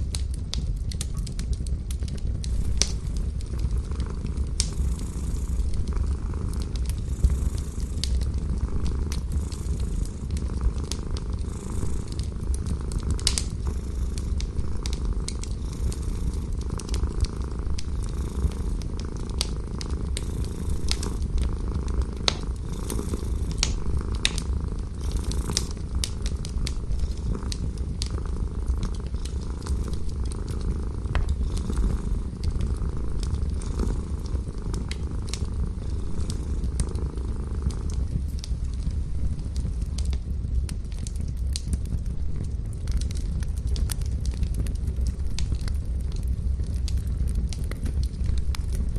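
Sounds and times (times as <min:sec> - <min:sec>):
cat purring: 0:00.0 - 0:48.9
fire crackling: 0:00.0 - 0:48.9.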